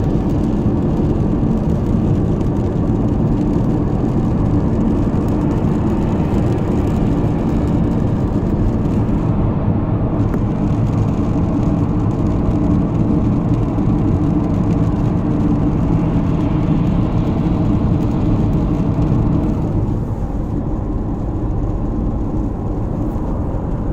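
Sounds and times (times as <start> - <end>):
low hum from car: 0.0 - 23.9
road and engine noise: 0.0 - 23.9.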